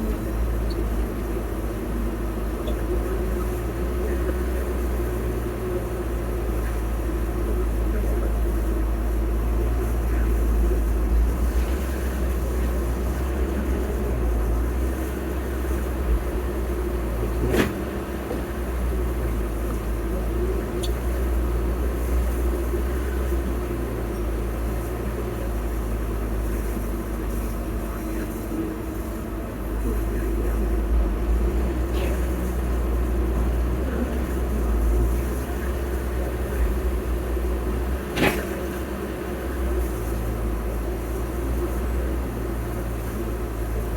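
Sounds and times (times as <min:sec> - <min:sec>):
diesel engine rumbling: 0:00.0 - 0:43.9.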